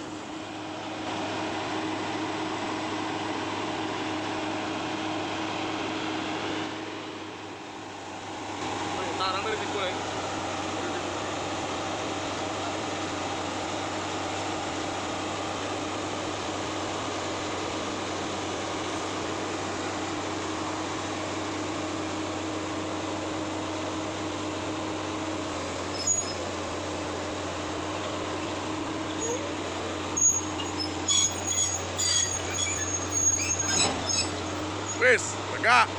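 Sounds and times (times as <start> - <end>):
excavator diesel engine drone: 0.0 - 35.9.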